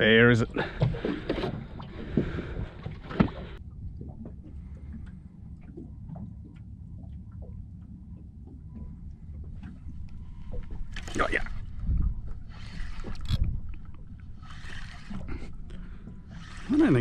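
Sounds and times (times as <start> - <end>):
water lapping against a boat hull: 0.0 - 17.0.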